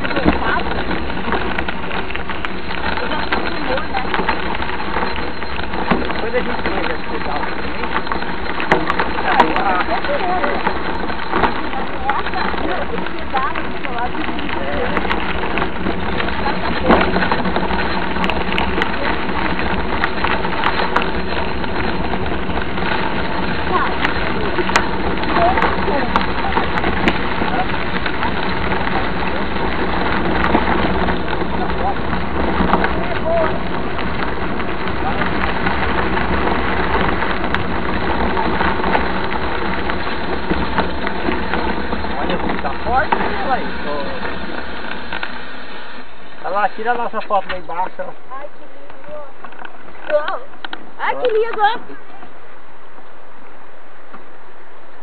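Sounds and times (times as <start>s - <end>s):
bike clicks and rattles: 0.0s - 51.9s
bike tyres crunching on gravel: 0.0s - 55.0s.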